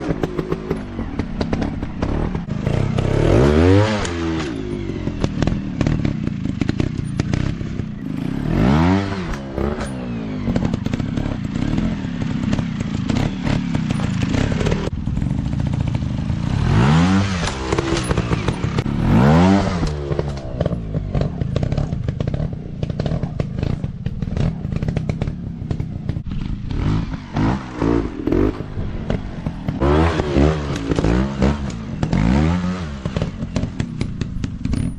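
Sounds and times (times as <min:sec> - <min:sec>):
dirt bike engines revving: 0:00.0 - 0:34.9.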